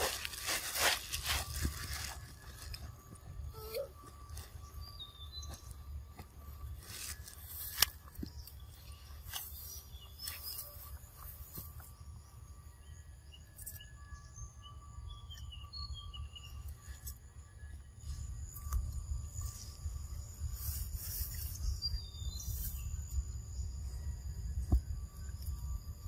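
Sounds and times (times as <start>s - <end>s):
birds chirping: 0.0s - 26.0s
insects droning: 0.0s - 26.0s
low wind rumble: 0.0s - 26.0s.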